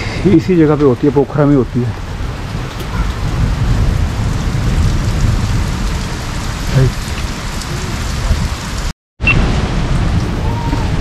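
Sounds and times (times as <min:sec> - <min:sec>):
deep rumble: 0:00.0 - 0:11.0
heavy rain pouring: 0:00.0 - 0:11.0.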